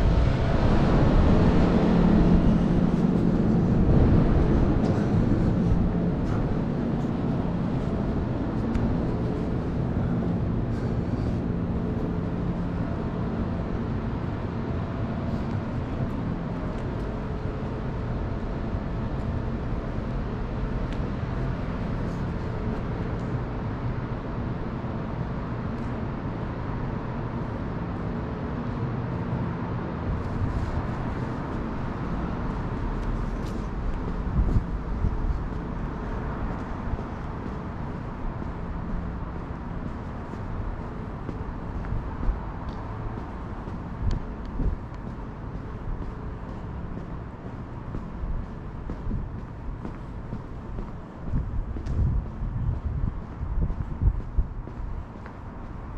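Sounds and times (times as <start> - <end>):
faint engine hum: 0.0 - 55.9
road traffic rumble: 0.0 - 55.9.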